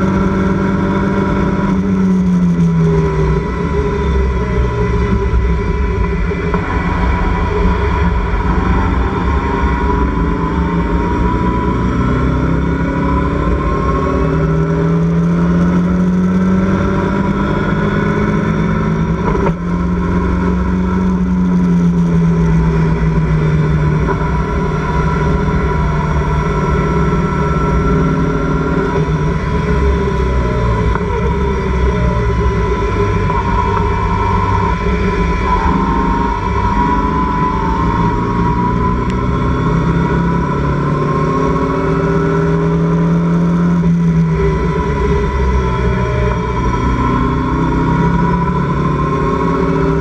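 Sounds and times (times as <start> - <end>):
race car engine running hard: 0.0 - 50.0
wind rumble: 0.0 - 50.0.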